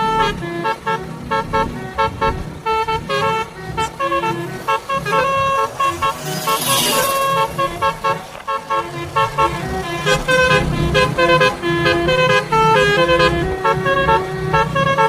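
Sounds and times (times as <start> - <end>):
multi-tone bus horn melody: 0.0 - 15.0.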